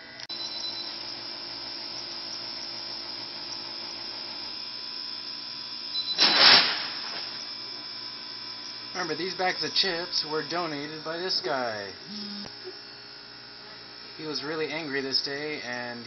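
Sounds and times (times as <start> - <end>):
electrical hum and hiss: 1.0 - 16.0.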